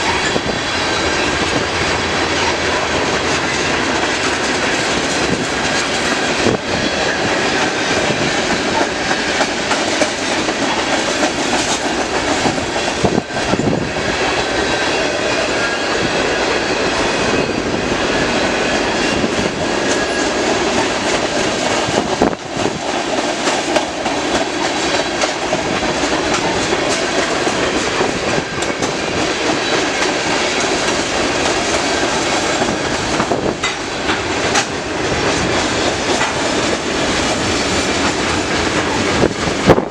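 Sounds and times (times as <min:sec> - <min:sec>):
clickety-clack over rail joints: 0:00.0 - 0:39.9
freight train wheels rumbling: 0:00.0 - 0:39.9.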